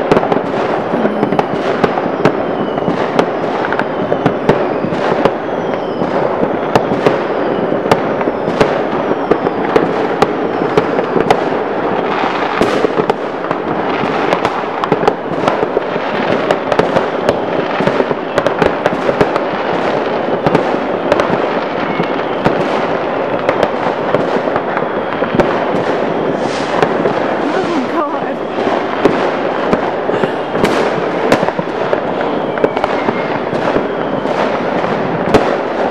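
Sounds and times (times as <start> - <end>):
falling firework whistles: 0.0 - 35.9
firecrackers crackling: 0.0 - 35.9
firework bangs: 0.0 - 35.9.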